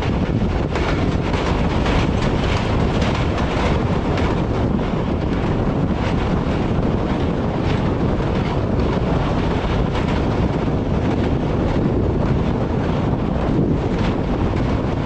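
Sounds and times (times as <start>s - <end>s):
train wheel and track noise: 0.0s - 15.0s
wind buffeting microphone: 0.0s - 15.0s.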